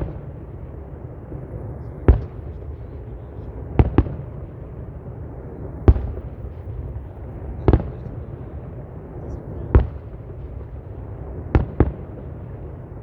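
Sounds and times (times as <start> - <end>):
fireworks bursting with bangs: 0.0 - 13.0
steady low rumble: 0.0 - 13.0.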